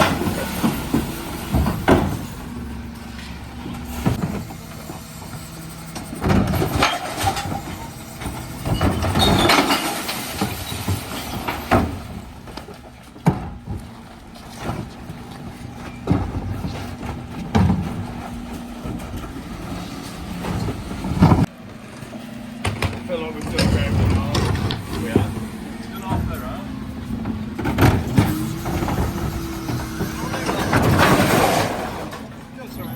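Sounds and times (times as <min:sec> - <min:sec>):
bins crashing into lorry: 0:00.0 - 0:13.8, 0:14.5 - 0:21.5, 0:22.6 - 0:32.9
refuse lorry engine hum: 0:00.0 - 0:32.9.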